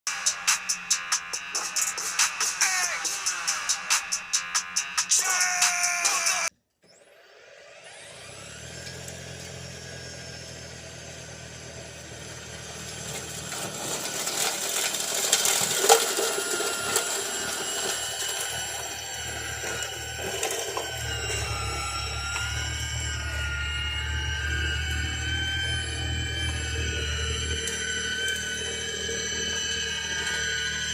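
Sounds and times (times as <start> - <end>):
snowblower motors whining: 0.1 - 30.9.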